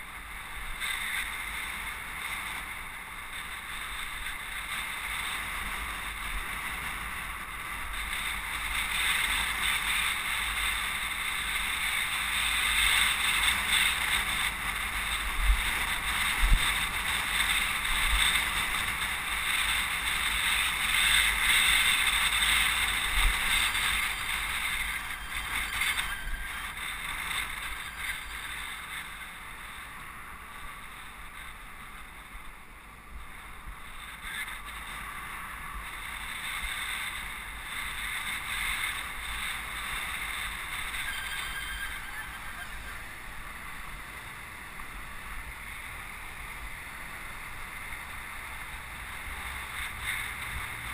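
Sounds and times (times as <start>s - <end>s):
road rumble: 0.0s - 50.9s
wind rushing over microphone: 0.0s - 50.9s.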